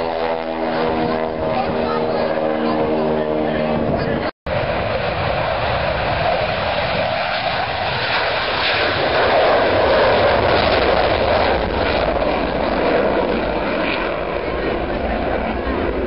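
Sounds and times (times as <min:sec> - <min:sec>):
aircraft engine rushing: 0:00.0 - 0:16.0.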